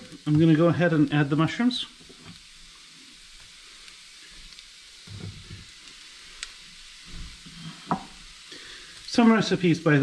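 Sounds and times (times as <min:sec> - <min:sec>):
onions sizzling in a pan: 0:00.0 - 0:10.0.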